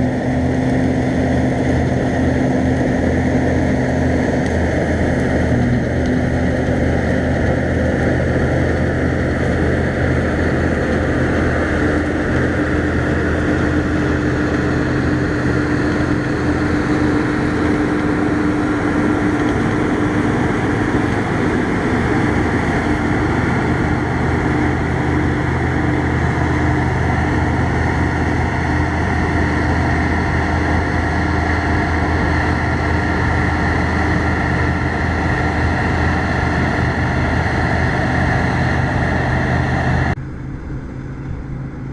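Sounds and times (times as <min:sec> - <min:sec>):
combine harvester running: 0:00.0 - 0:41.9.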